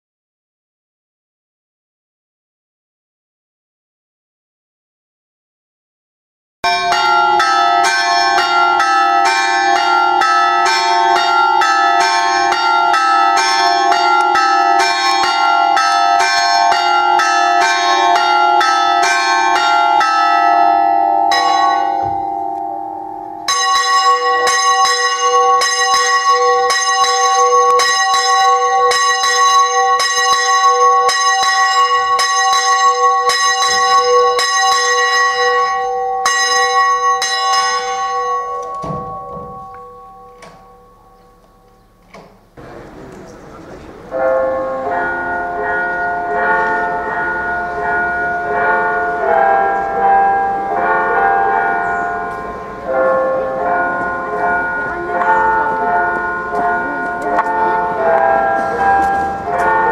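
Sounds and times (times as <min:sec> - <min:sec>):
church bells ringing rapid peal: 0:06.6 - 0:59.9.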